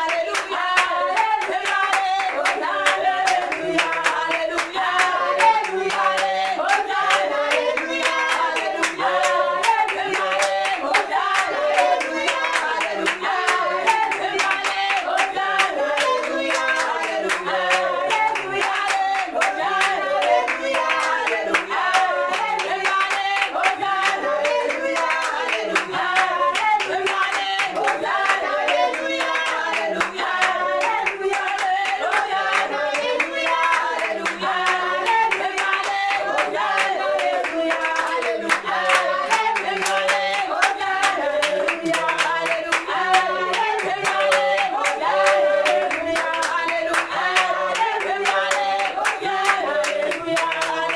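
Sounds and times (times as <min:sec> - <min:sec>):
congregation singing: 0:00.0 - 0:50.9
people clapping along: 0:00.0 - 0:50.9.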